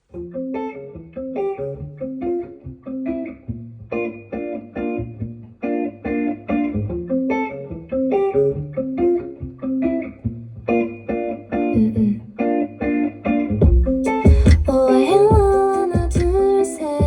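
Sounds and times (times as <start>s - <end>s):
guitar music with bass line: 0.0s - 17.0s.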